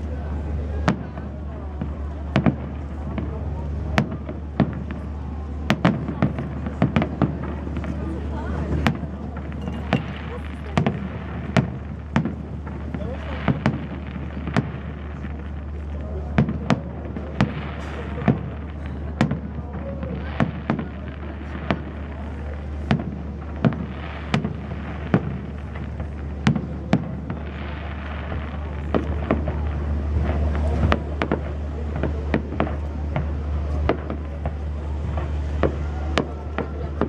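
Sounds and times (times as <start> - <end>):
fireworks bursting: 0.0 - 37.0
fireworks crackle: 0.0 - 37.0.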